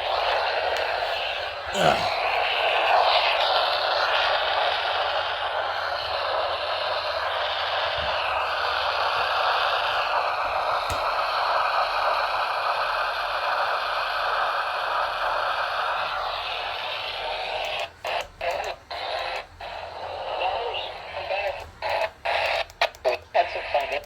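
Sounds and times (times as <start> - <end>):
radio static hiss: 0.0 - 12.8, 14.9 - 24.0.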